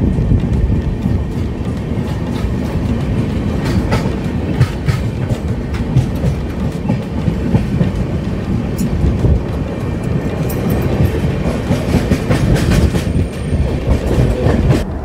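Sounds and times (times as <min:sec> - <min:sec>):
clacks over rail joints: 0:00.0 - 0:14.8
train wheels rumbling on track: 0:00.0 - 0:15.0.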